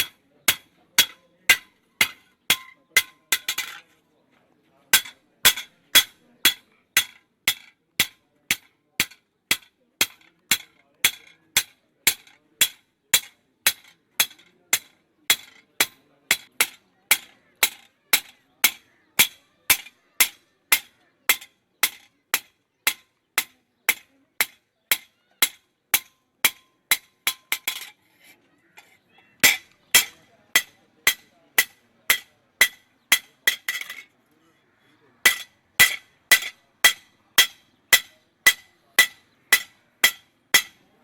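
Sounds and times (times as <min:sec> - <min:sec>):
hammer striking metal on anvil: 0:00.0 - 0:03.8, 0:05.0 - 0:27.9, 0:29.4 - 0:34.0, 0:35.2 - 0:40.9.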